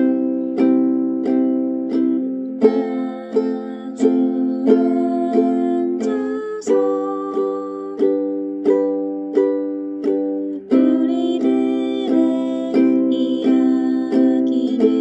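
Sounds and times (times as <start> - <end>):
ukulele strumming chords: 0.0 - 15.0.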